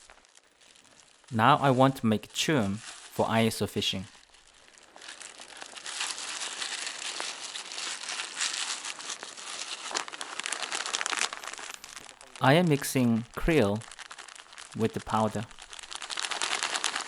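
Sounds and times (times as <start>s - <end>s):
fishing bait being mixed crunching: 0.0s - 17.0s.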